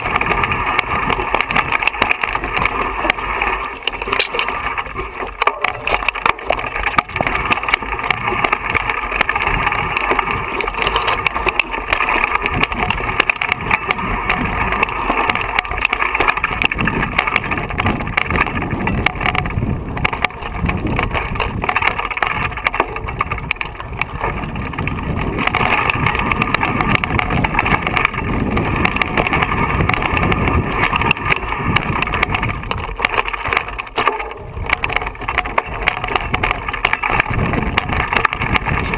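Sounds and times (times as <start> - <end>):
bike rattling over rocks: 0.0 - 38.9.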